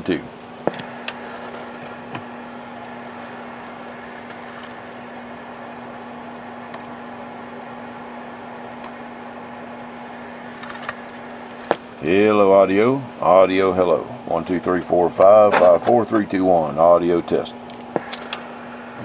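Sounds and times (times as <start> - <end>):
low hum: 0.0 - 15.4, 16.9 - 19.0.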